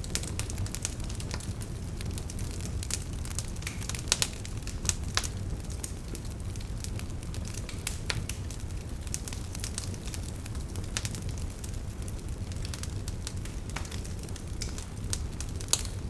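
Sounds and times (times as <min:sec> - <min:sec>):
wood fire crackling in a fireplace: 0:00.0 - 0:16.0.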